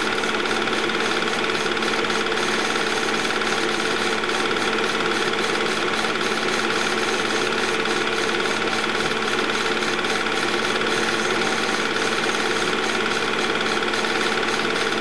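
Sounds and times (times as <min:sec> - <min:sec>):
film clattering through projector: 0:00.0 - 0:15.0
film projector whirring: 0:00.0 - 0:15.0.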